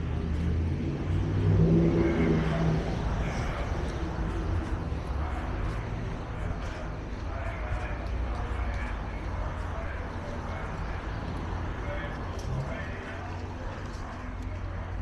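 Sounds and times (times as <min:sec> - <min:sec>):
city street hum: 0:00.0 - 0:15.0.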